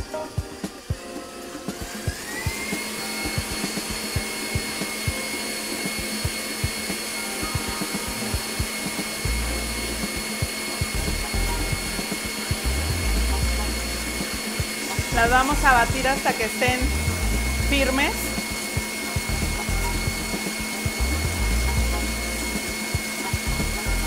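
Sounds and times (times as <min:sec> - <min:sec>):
stand mixer whining: 0:00.0 - 0:24.0
whisk whipping egg whites: 0:00.0 - 0:24.0.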